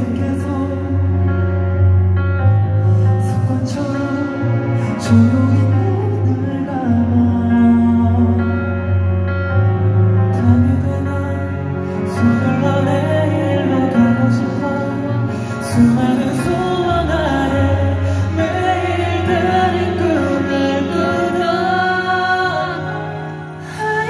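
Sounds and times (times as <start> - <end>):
man singing into a microphone: 0.0 - 2.0, 2.7 - 9.2, 10.2 - 24.0
soft backing music: 0.0 - 24.0.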